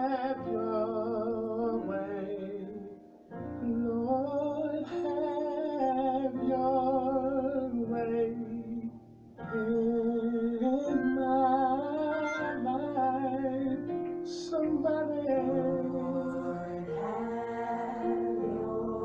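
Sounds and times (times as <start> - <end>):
instrumental backing: 0.0 - 19.0
person singing gospel: 0.0 - 19.0.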